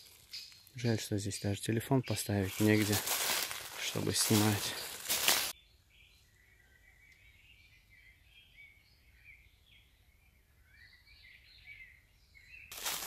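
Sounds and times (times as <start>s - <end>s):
small birds chirping and warbling: 0.0s - 13.0s.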